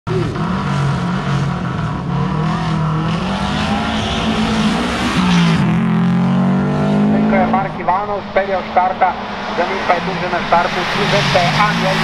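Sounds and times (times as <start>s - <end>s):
car engine revving: 0.1s - 12.0s.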